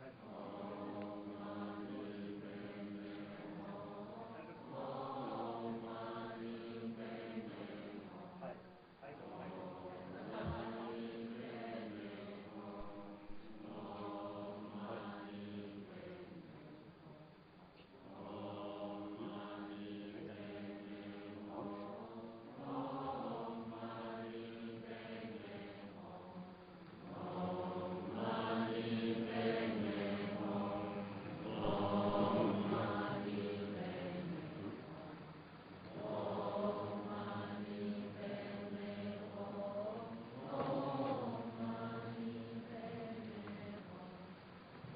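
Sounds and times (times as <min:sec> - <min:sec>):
voices chanting: 0:00.0 - 0:17.2, 0:18.0 - 0:44.4.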